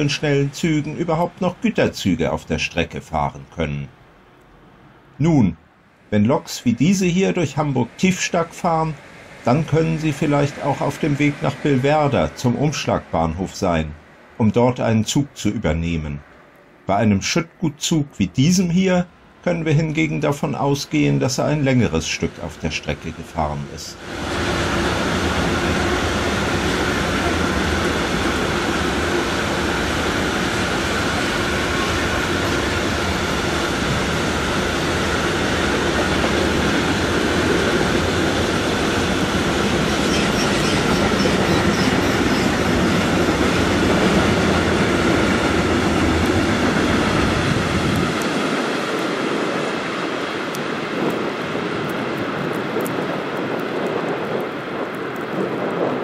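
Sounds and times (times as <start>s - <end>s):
freight train rumbling past: 0.0s - 16.5s, 17.2s - 56.0s.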